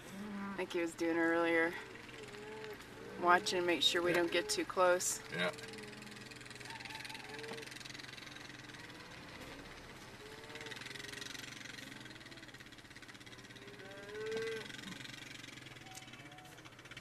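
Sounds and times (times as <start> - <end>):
vehicle engine idling: 0.0 - 17.0
cattle bawling: 1.4 - 16.6.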